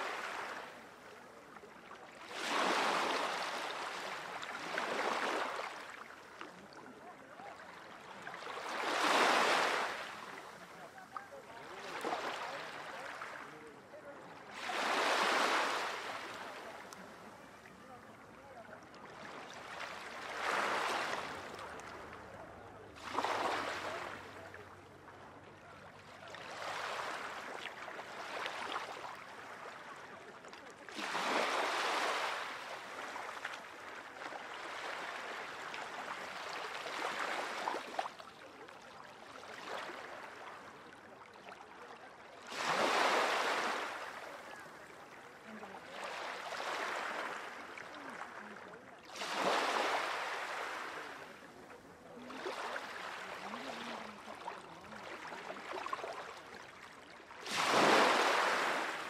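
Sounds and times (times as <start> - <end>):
small waves breaking ashore: 0.0 - 59.0.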